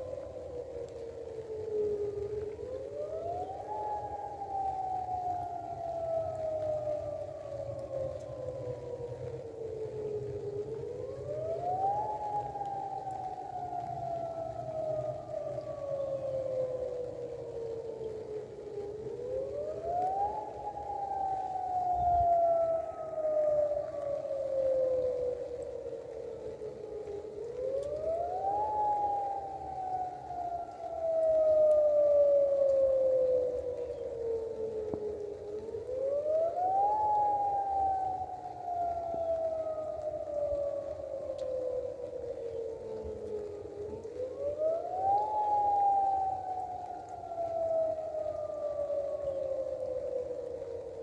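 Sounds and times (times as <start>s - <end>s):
warning siren wailing: 0.0s - 51.0s.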